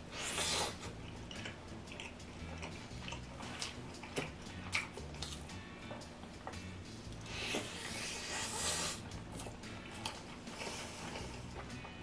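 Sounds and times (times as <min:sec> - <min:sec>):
chewing food: 0:00.2 - 0:12.0.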